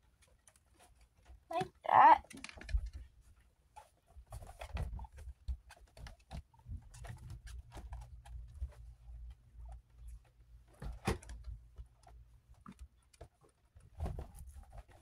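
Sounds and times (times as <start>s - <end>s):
guinea pigs pattering: 0.0s - 15.0s.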